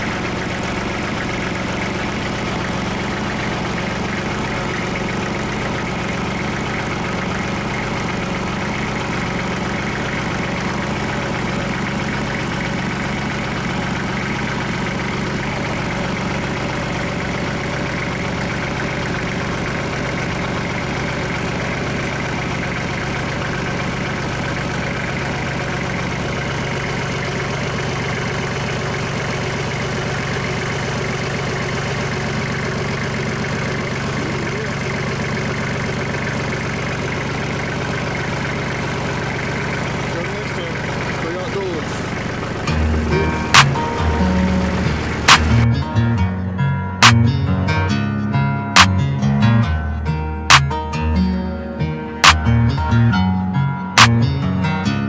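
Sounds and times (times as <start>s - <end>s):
tractor diesel engine idling: 0.0s - 47.4s, 48.8s - 50.7s.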